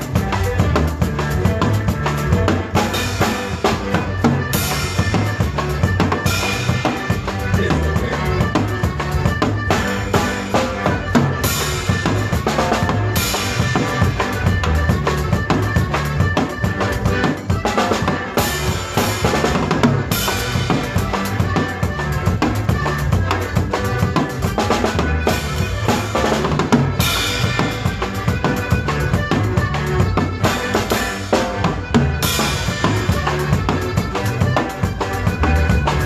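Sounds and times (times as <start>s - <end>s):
band playing instrumental music: 0.0s - 36.0s
drum kit beat: 0.0s - 36.0s
stepping bass line: 0.0s - 36.0s.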